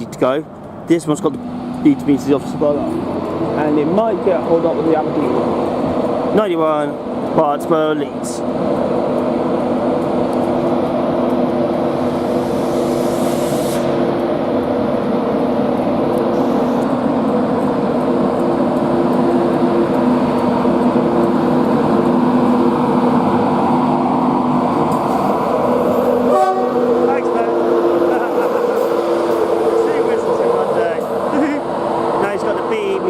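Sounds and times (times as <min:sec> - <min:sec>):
locomotive equipment humming: 0:00.0 - 0:33.0.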